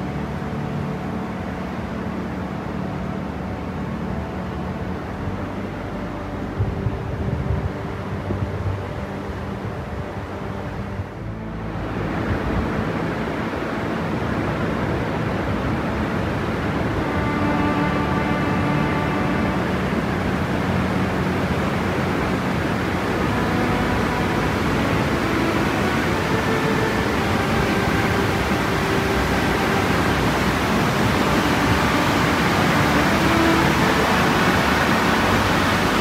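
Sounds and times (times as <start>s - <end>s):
rushing water of rapids: 0.0s - 36.0s.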